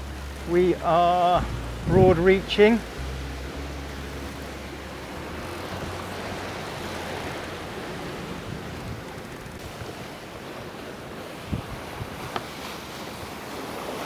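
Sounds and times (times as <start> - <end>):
water rushing past hull: 0.0 - 14.0
wind on microphone: 0.0 - 14.0.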